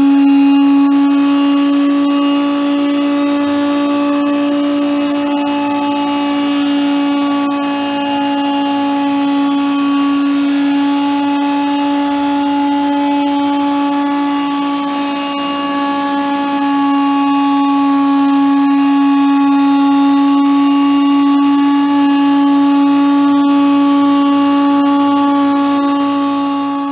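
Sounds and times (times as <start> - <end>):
machine whine: 0.0 - 26.9.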